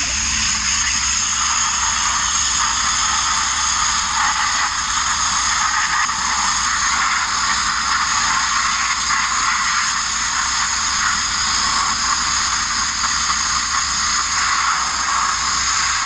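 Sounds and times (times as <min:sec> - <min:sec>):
media blaster hissing on steel: 0:00.0 - 0:16.0.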